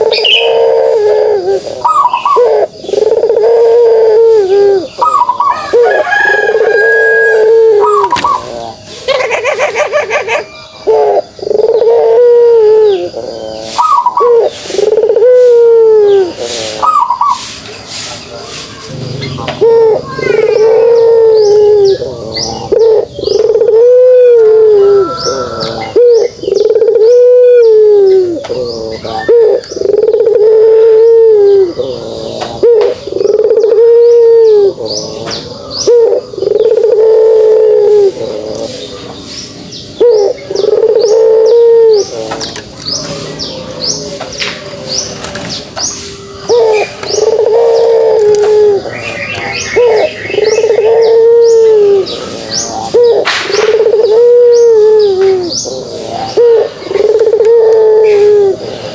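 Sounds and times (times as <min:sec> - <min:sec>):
dove cooing: 0:00.0 - 0:17.6, 0:18.3 - 0:58.9
small birds chirping: 0:00.0 - 0:58.9.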